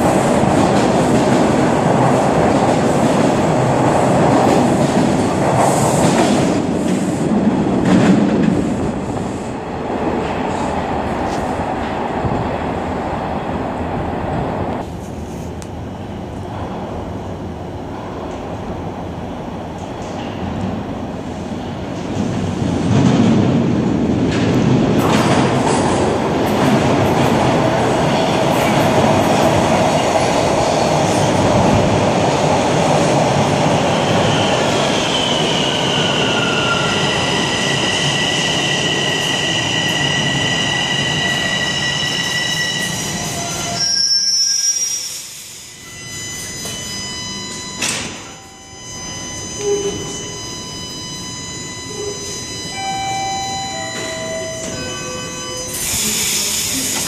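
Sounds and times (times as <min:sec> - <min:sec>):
train wheels rumbling on rail: 0:00.0 - 0:47.0, 0:55.7 - 0:57.0.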